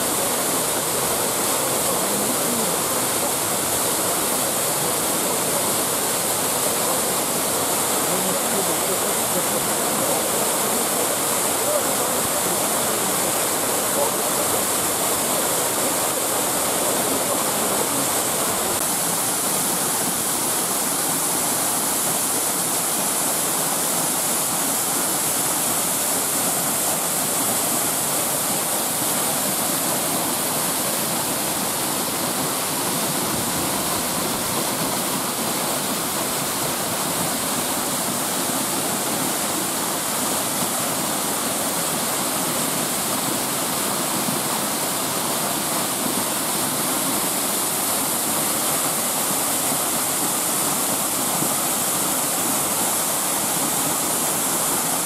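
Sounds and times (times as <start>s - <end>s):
waterfall pouring onto boulders: 0.0s - 55.0s.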